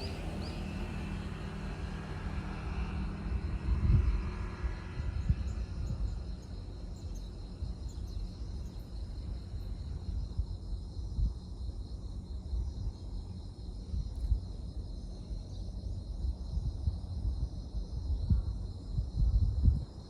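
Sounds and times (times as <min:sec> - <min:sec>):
steady low rumble: 0:03.2 - 0:20.0.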